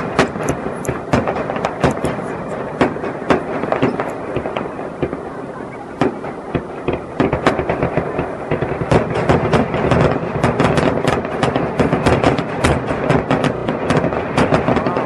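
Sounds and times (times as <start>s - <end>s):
continuous rumble: 0.0s - 15.0s
fireworks bursts and launch bangs: 0.0s - 15.0s.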